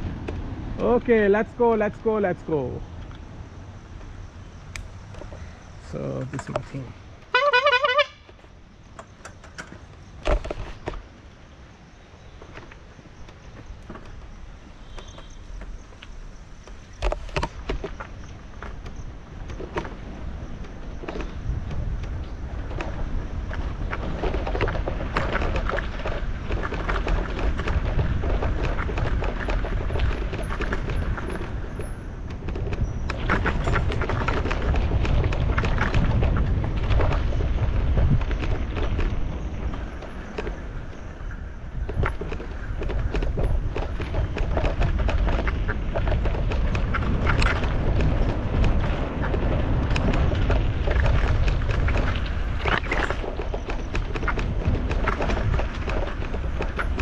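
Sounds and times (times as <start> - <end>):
bike tyres clicking and rattling: 0.0 - 57.0
wind rumbling on microphone: 0.0 - 57.0.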